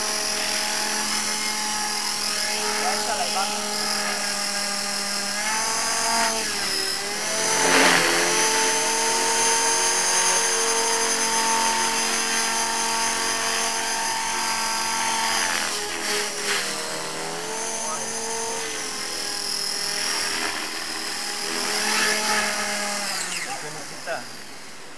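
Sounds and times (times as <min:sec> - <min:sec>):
model helicopter motor whine: 0:00.0 - 0:24.9.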